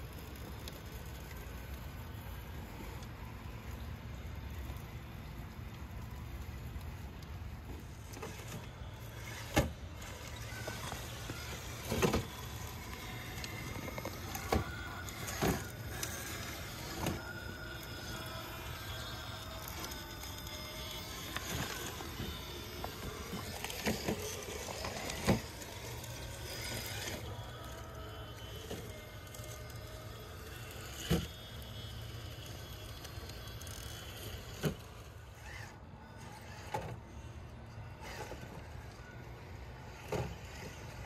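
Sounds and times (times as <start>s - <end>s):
rc car motor whine: 0.0s - 41.0s.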